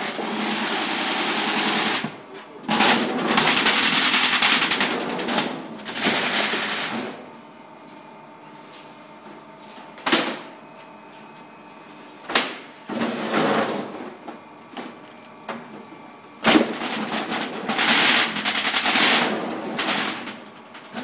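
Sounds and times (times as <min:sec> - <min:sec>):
conveyor motor hum: 0:00.0 - 0:21.0.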